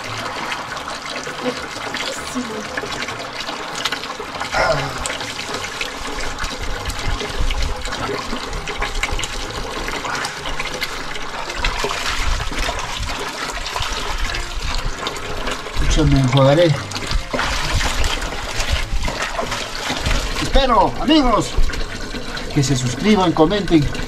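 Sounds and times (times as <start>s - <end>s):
water splashing over hair: 0.0s - 24.0s.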